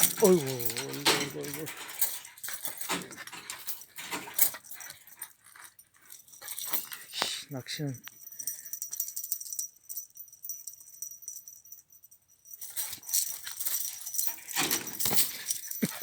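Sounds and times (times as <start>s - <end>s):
toy jingling and rattling: 0.0s - 16.0s.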